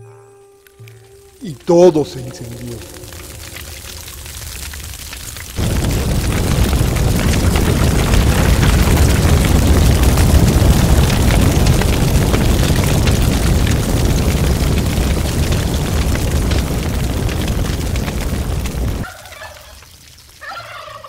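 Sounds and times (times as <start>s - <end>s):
fire rumble with crackling: 1.0s - 21.0s.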